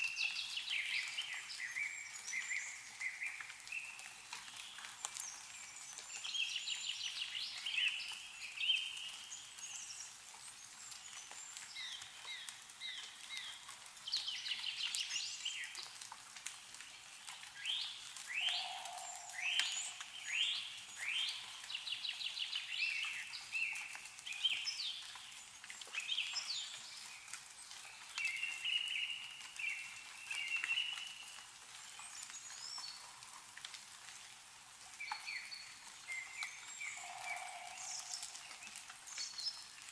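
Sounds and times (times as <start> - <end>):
water dripping from trees: 0.0 - 39.9.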